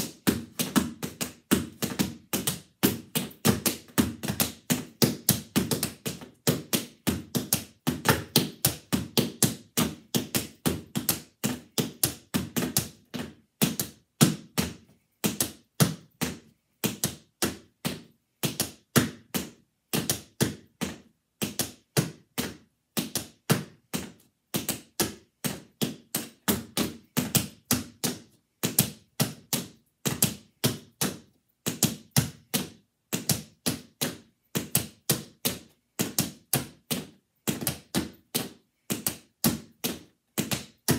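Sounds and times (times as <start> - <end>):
tap shoes clicking on mat: 0.0 - 40.9.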